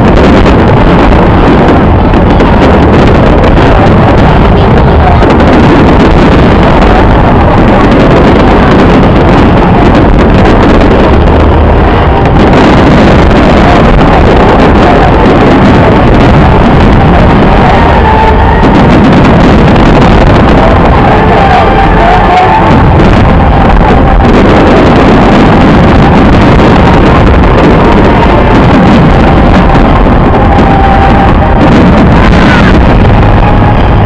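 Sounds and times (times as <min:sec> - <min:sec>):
fireworks barrage: 0:00.0 - 0:34.0.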